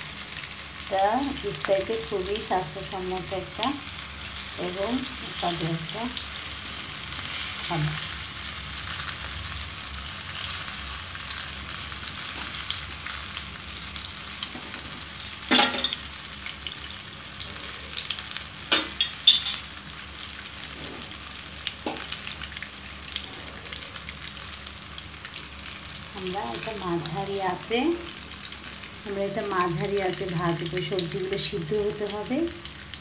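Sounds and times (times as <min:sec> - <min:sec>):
food deep-frying in oil: 0:00.0 - 0:33.0.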